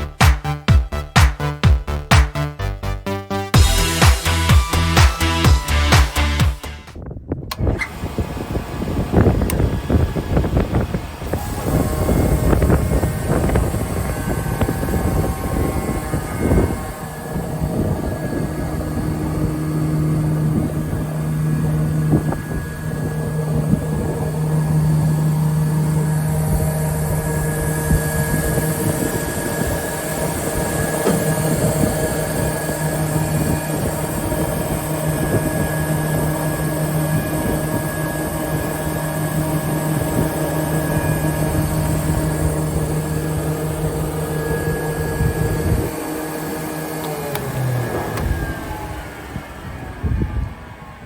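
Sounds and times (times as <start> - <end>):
panel saw humming: 7.5 - 51.0.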